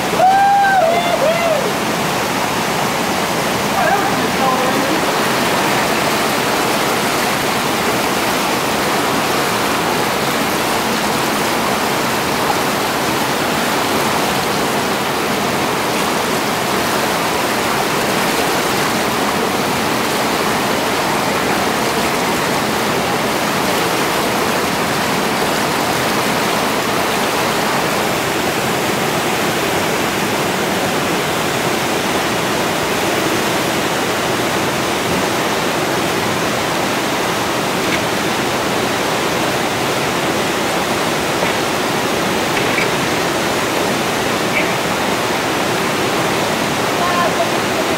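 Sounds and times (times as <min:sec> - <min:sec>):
churning river water: 0:00.0 - 0:47.9.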